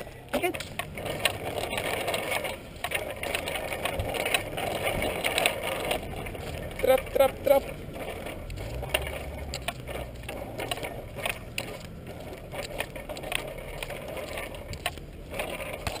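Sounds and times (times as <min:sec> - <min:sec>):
bicycle tyres rumbling: 0:00.0 - 0:16.0.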